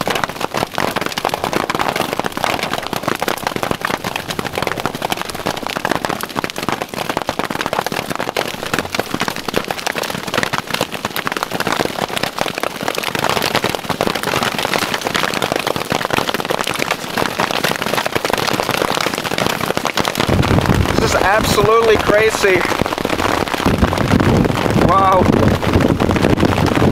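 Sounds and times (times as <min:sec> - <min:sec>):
hailstones pelting a tarp: 0:00.0 - 0:26.9.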